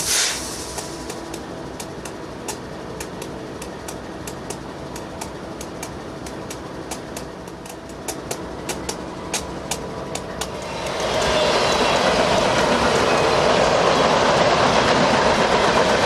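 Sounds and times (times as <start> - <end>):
train wheels clicking over rail joints: 0.0 - 16.0.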